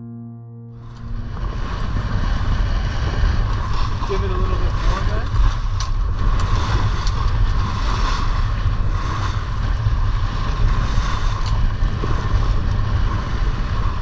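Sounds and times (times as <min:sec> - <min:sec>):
water rushing along hull: 0:00.8 - 0:14.0
wind buffeting microphone: 0:01.0 - 0:14.0.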